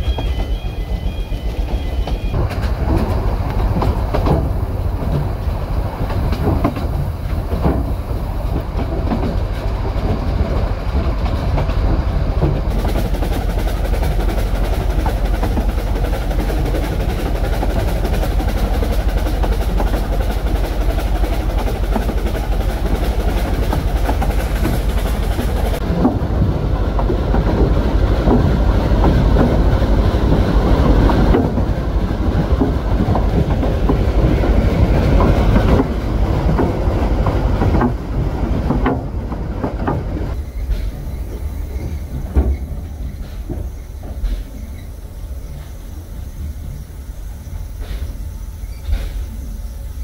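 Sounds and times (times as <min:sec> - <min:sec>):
wheels clattering on rails: 0:00.0 - 0:49.5
steam train rumbling: 0:00.0 - 0:50.0.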